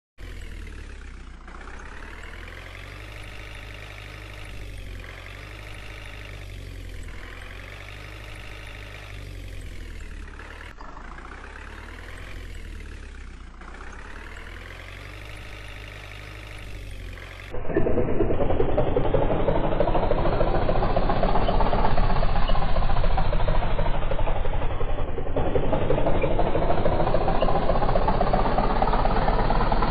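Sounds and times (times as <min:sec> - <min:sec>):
rough dull motor: 0:00.2 - 0:29.9
truck engine revving: 0:00.2 - 0:29.9.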